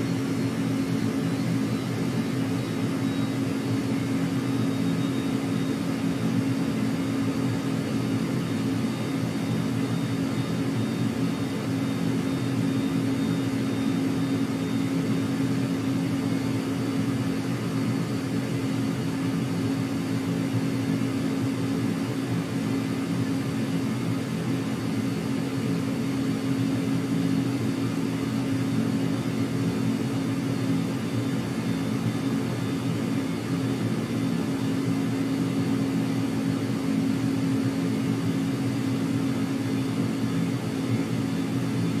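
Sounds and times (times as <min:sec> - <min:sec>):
engine hum with high whine: 0:00.0 - 0:42.0.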